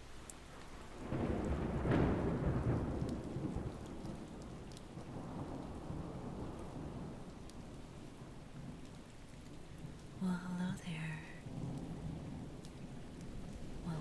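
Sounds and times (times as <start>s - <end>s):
heavy rain: 0.0s - 14.0s
thunder rumbling: 0.7s - 14.0s.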